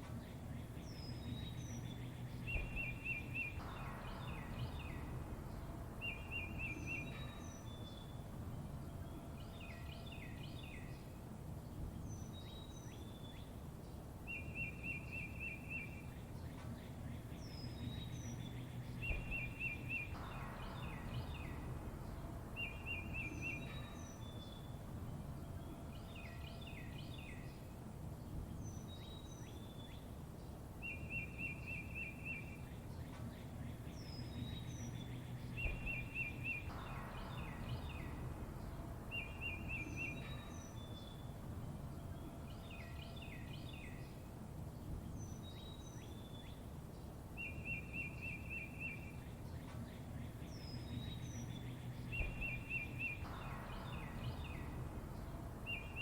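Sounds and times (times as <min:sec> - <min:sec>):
low background rumble: 0:00.0 - 0:56.0
songbirds chirping: 0:00.0 - 0:56.0.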